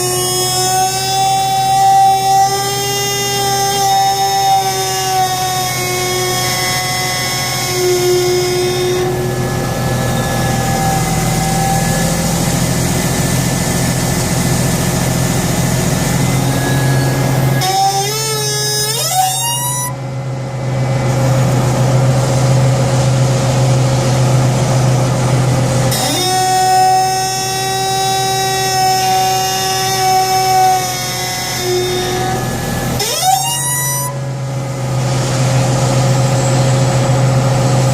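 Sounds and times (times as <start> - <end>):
hydraulic steering squealing: 0.0 - 20.1, 25.9 - 37.9
diesel engine running: 0.0 - 37.9.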